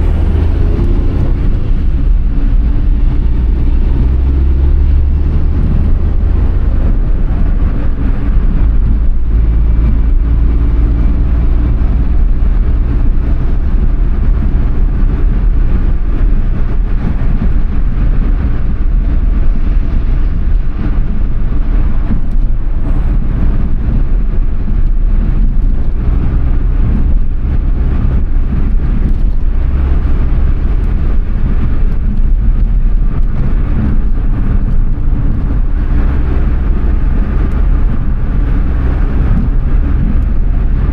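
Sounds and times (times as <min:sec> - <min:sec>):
road and wind noise: 0:00.0 - 0:40.9
small car engine running: 0:00.0 - 0:40.9.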